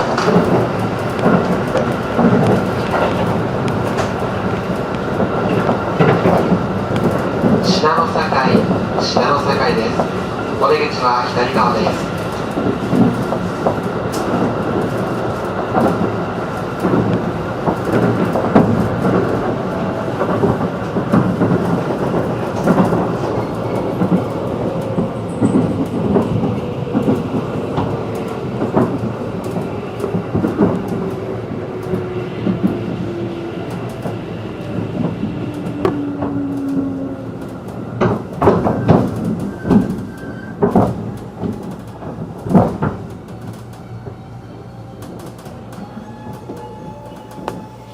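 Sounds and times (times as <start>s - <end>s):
clicks at rail joints: 0.0s - 10.1s, 10.9s - 44.2s
train wheels rumbling on rail: 0.0s - 47.9s.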